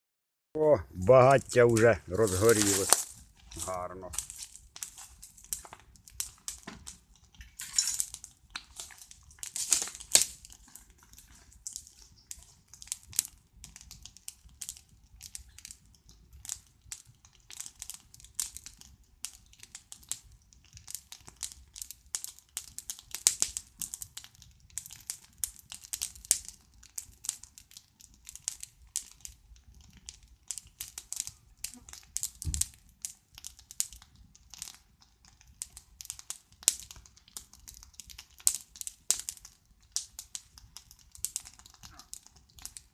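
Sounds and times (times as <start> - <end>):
campfire crackling and popping: 0.6 - 42.9.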